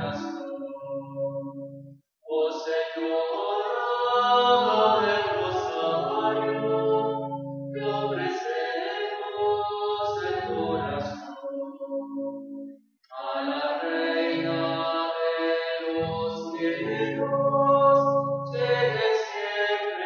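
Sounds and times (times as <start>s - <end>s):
hymn sung in long notes: 0.0s - 1.2s, 2.3s - 11.9s, 13.1s - 20.0s.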